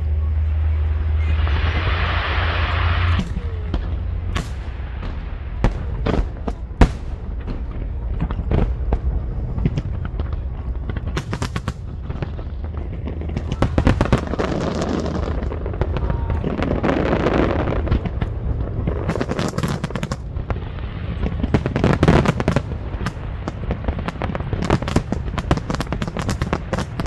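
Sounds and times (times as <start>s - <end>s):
crowd noise: 0.0s - 27.0s
fireworks bangs and crackles: 0.0s - 27.0s
low rumble: 0.0s - 27.0s
fireworks popping: 1.0s - 27.0s.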